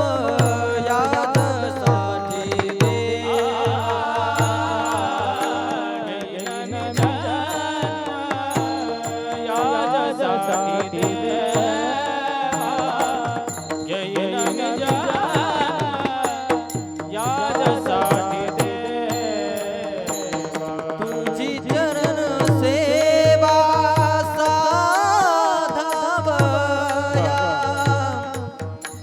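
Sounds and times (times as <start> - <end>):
held accompanying notes: 0.0 - 29.0
person singing wordless vocal run: 0.0 - 29.0.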